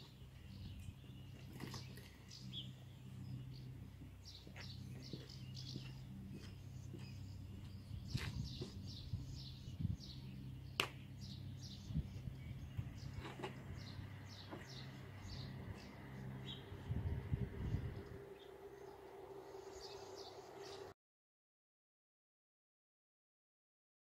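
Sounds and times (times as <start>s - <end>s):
birds chirping: 0.0s - 20.9s
low steady hum: 0.0s - 20.9s.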